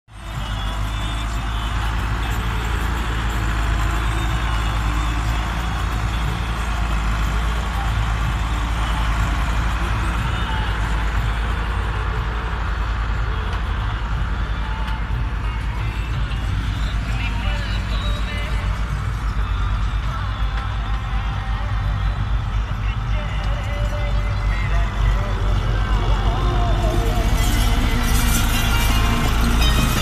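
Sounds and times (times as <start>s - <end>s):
tractor diesel engine running: 0.1s - 30.0s.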